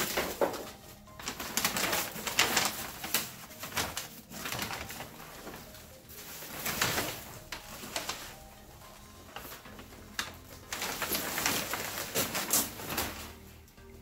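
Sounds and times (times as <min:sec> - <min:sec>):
packaging wrap rustling: 0:00.0 - 0:13.7.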